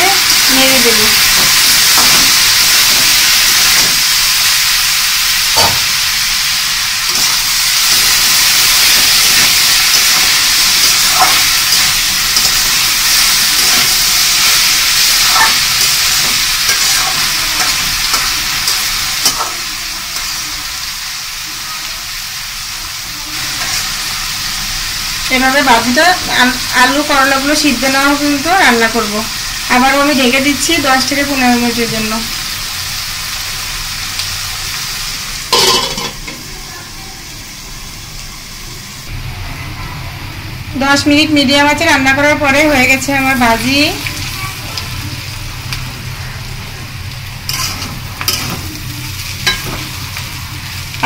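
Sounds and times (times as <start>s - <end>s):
vegetables sizzling in hot oil: 0.0s - 39.3s, 40.3s - 51.0s.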